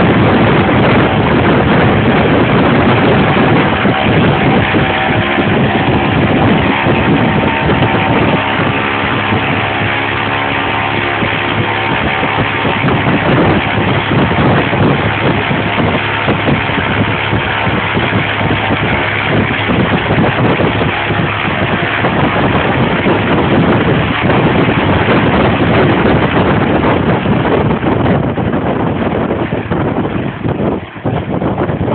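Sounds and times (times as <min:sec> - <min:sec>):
aircraft engine running: 0:00.0 - 0:31.9
propeller blast rushing: 0:00.0 - 0:31.9.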